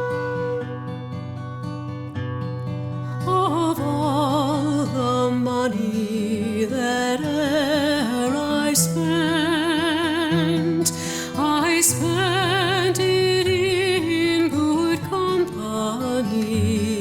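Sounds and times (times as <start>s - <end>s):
solo voice singing with vibrato: 3.2s - 17.0s.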